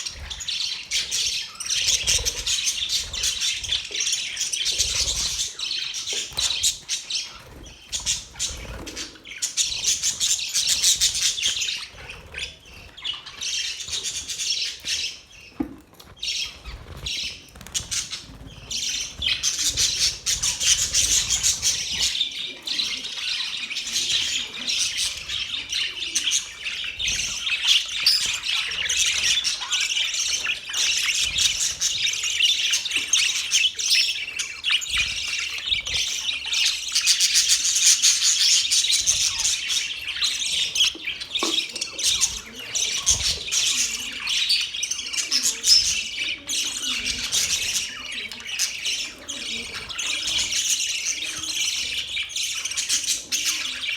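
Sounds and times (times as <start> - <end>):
budgerigars chattering: 0.0 - 15.3, 16.2 - 53.9.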